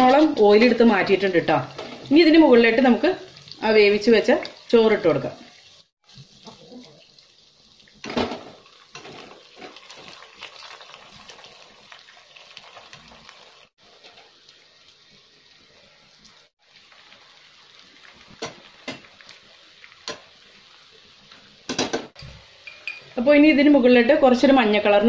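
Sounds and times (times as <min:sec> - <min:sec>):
chicken sizzling in hot oil: 0:00.0 - 0:23.8.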